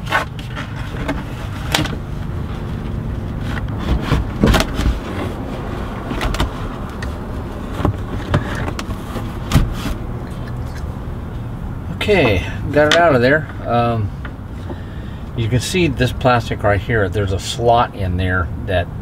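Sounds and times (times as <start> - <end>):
steady low rumble: 0.2 - 17.4.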